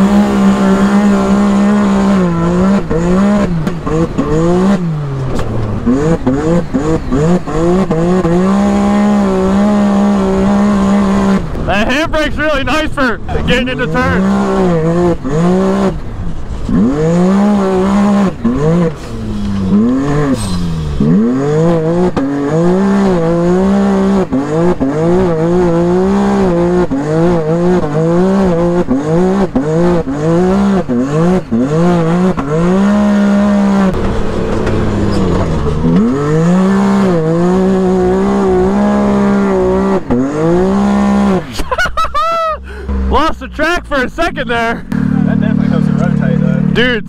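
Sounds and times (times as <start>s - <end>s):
engine revving: 0.0s - 47.0s.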